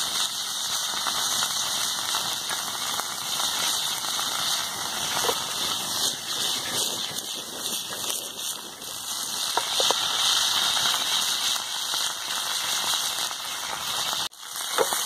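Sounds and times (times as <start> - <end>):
chicken sizzling in oil: 0.0 - 15.0
wood fire crackling: 0.0 - 15.0.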